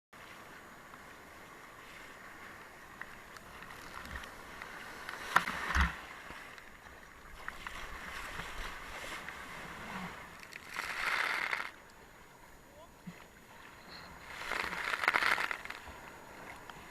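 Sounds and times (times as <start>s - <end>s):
ocean water sloshing and rushing: 0.2s - 16.9s.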